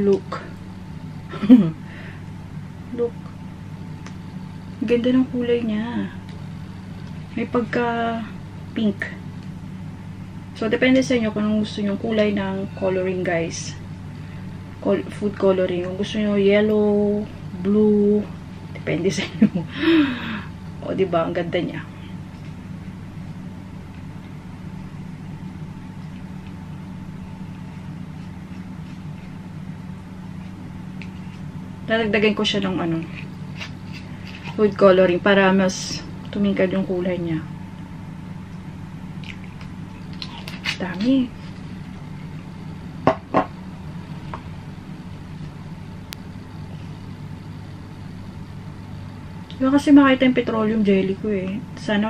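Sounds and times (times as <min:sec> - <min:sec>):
machine humming: 0:00.0 - 0:52.0.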